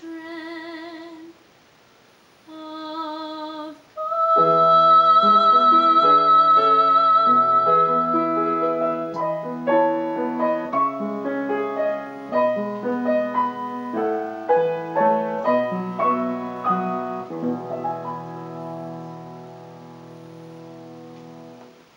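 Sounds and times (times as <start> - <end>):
piano notes and chords: 4.2 - 21.9.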